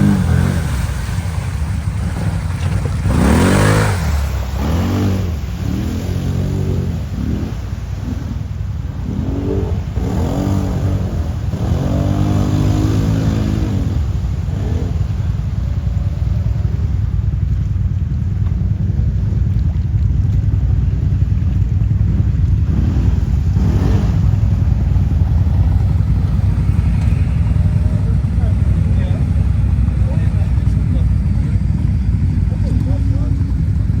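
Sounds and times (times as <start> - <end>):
quad bike engine revving: 0.0 - 17.2, 21.3 - 34.0.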